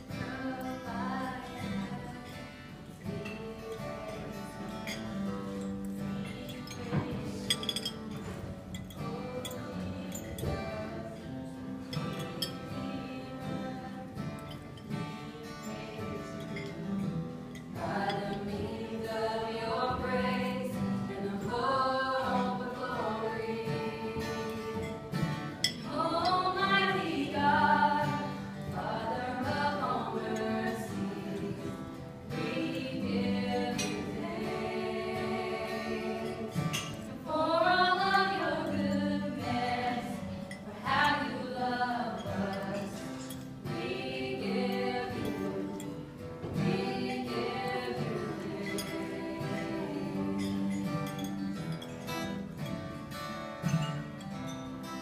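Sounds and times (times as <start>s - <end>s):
group singing gospel song: 0.0s - 52.4s
acoustic guitar: 0.0s - 55.0s.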